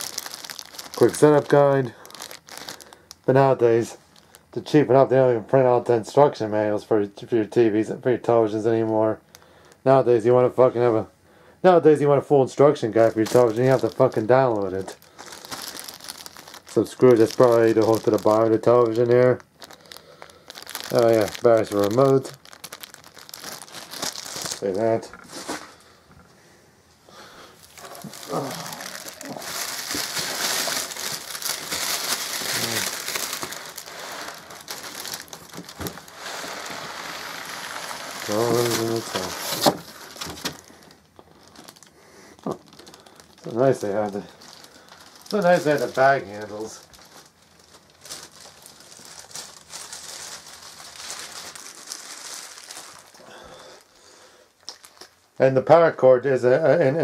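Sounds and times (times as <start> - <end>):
plastic bag crinkling: 0.0 - 4.8, 12.5 - 25.9, 27.6 - 55.2.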